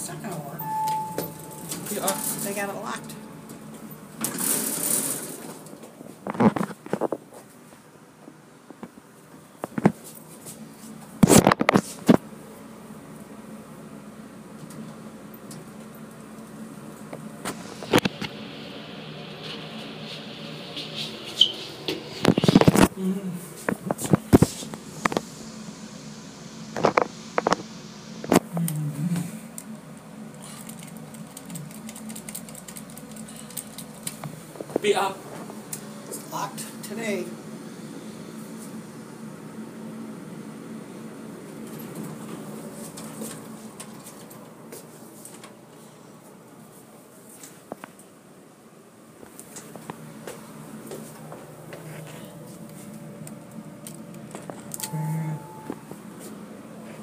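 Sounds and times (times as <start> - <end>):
elevator car humming: 0.0 - 47.1, 48.2 - 57.0.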